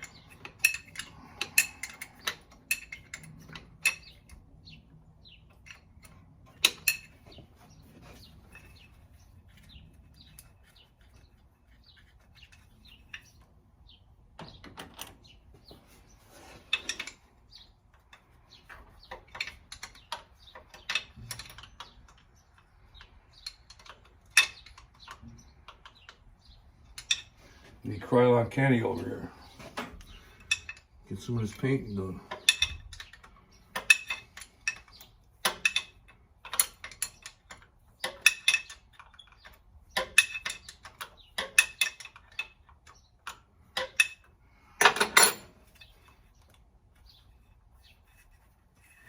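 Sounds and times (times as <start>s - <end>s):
metal tools clinking and rattling: 0.0s - 4.5s, 5.3s - 13.5s, 14.4s - 49.0s.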